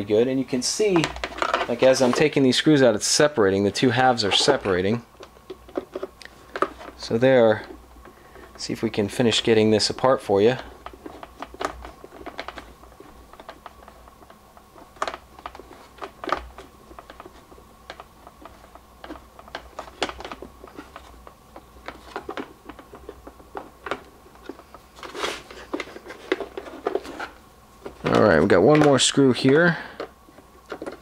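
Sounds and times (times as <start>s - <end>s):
plastic parts clicking and rattling: 0.6s - 2.8s, 3.9s - 7.7s, 9.9s - 31.0s.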